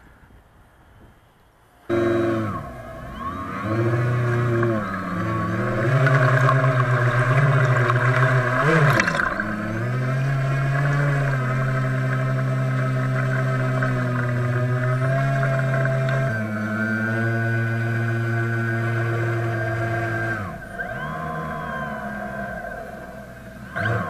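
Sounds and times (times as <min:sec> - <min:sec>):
electric motor hum and whine: 0:00.0 - 0:24.0.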